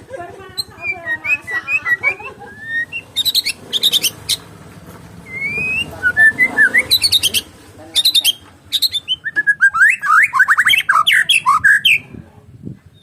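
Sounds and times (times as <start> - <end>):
songbird whistling song: 0.6 - 4.5, 5.2 - 12.2.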